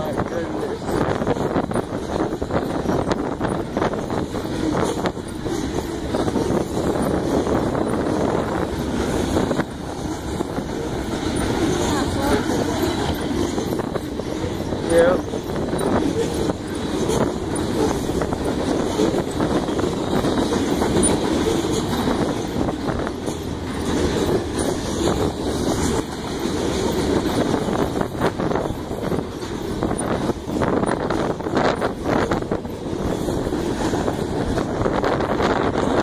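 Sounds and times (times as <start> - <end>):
sharp wheel clacks: 0.0 - 36.0
train wheels rumbling on rail: 0.0 - 36.0.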